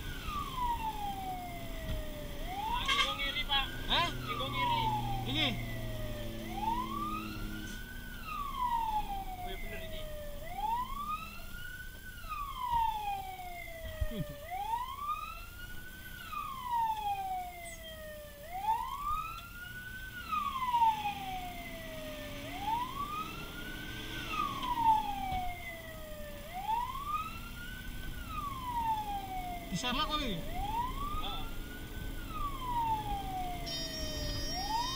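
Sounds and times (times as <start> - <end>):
fire truck wail siren: 0.0 - 34.9
truck engine and road noise: 0.0 - 34.9.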